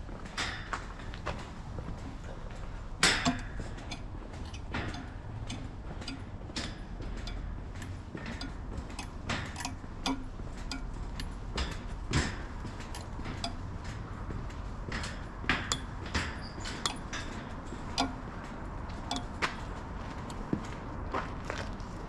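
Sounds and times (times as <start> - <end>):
footsteps: 0.0 - 22.0.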